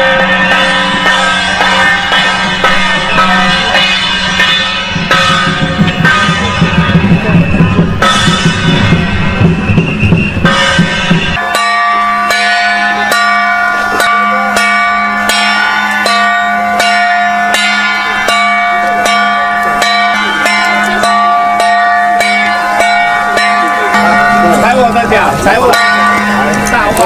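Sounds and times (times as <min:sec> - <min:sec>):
metal bell struck: 0:00.0 - 0:09.6, 0:10.4 - 0:27.0
loud drumming music: 0:00.0 - 0:26.9.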